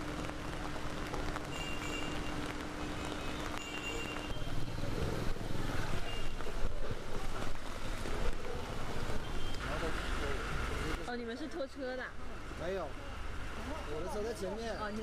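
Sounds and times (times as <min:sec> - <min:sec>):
water churning around wheels: 0:00.0 - 0:15.0.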